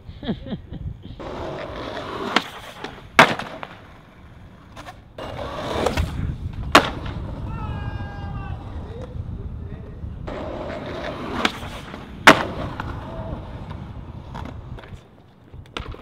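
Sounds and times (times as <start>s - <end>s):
skateboard wheels rolling on concrete: 0.0s - 16.0s
skateboard cracking on ground: 1.2s - 16.0s.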